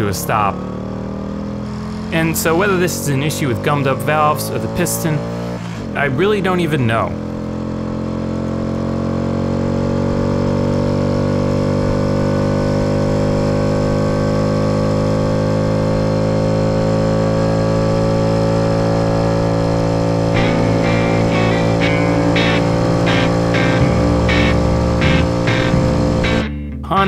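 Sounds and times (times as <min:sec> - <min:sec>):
motorcycle engine cruising: 0:00.0 - 0:26.6.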